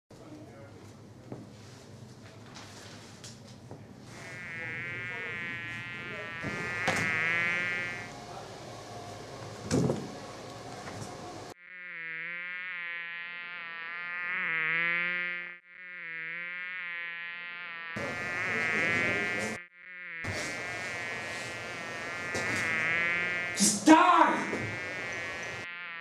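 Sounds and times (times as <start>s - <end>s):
fly buzzing in flight: 4.0s - 26.0s.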